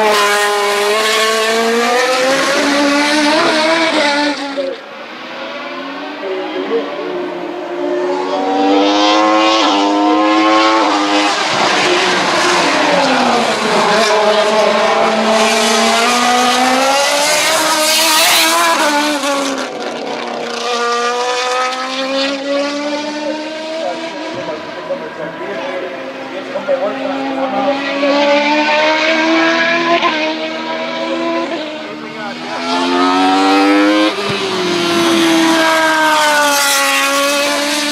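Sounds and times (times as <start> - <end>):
race car engine at full throttle: 0.0 - 37.9.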